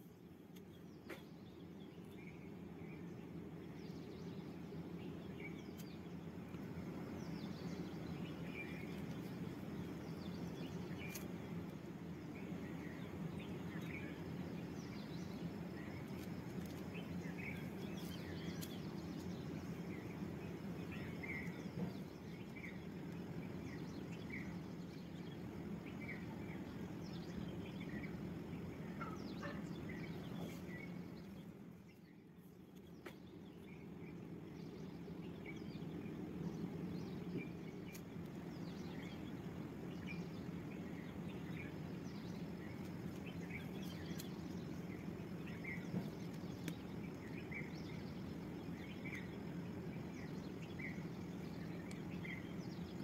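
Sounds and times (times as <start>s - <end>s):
low background hum: 0.0s - 53.0s
faint bird chirps: 10.0s - 53.0s.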